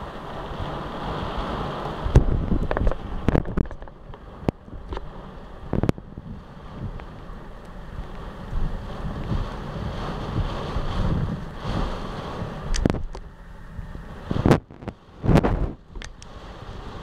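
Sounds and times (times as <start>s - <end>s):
heavy rain on window: 0.0s - 17.0s
storm gusts blasting: 0.0s - 17.0s.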